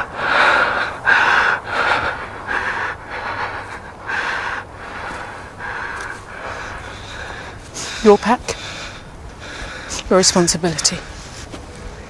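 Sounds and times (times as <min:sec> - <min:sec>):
heavy rapid breathing: 0:00.0 - 0:11.5.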